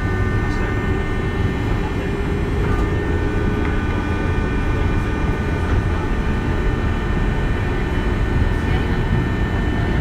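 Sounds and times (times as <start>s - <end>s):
high tones from train running gear: 0.0s - 10.0s
train wheels rumbling on rail: 0.2s - 10.0s.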